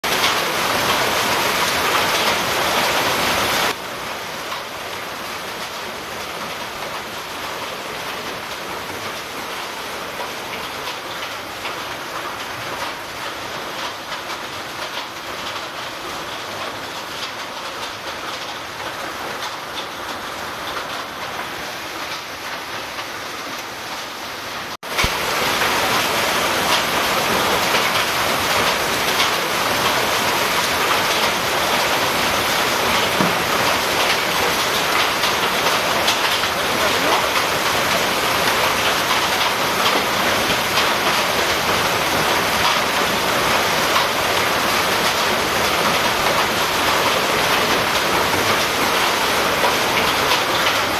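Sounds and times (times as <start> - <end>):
hail and heavy rain on street: 0.0 - 50.9.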